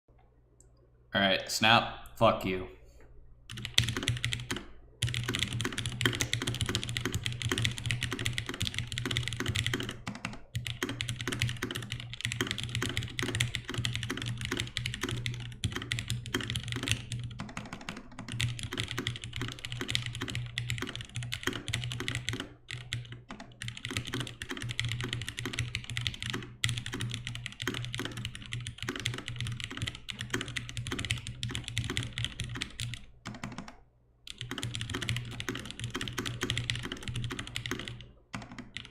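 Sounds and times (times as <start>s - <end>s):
fast typing on mechanical keyboard: 3.5s - 38.9s.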